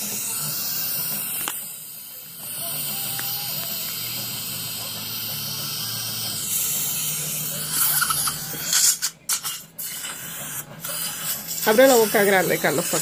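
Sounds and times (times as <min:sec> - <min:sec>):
dental suction hissing: 0:00.0 - 0:13.0.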